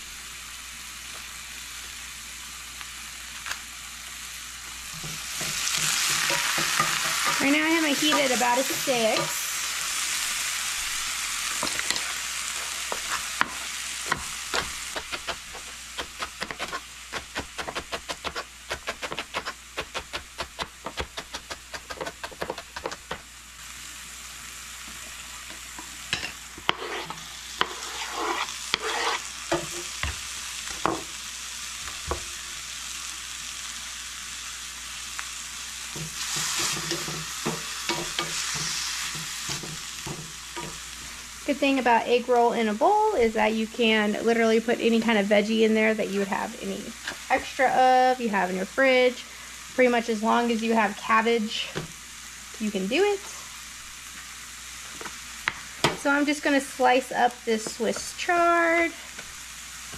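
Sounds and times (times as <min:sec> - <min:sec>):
vegetables sizzling in a pan: 0:00.0 - 0:59.9.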